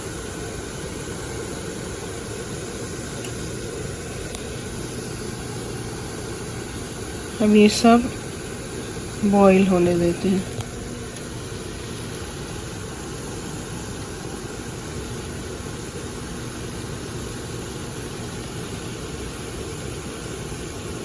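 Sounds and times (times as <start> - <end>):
pot of water boiling: 0.0 - 21.0.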